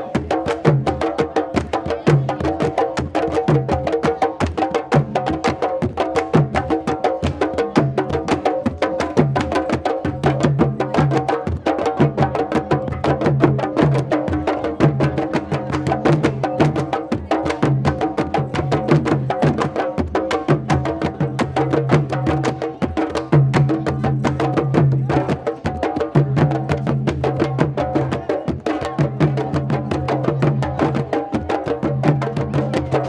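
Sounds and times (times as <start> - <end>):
group drumming: 0.0 - 33.0.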